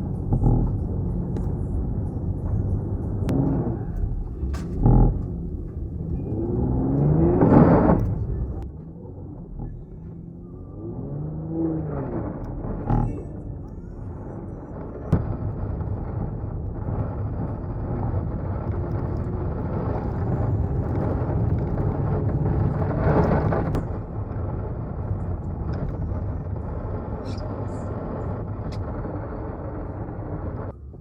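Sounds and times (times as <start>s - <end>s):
car engine rumble: 0.0s - 31.0s.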